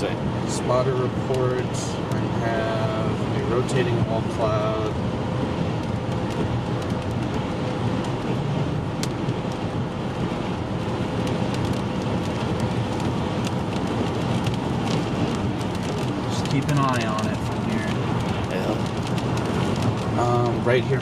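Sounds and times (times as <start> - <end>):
raindrops ticking on windshield: 0.0 - 21.0
tyre and road noise: 0.0 - 21.0.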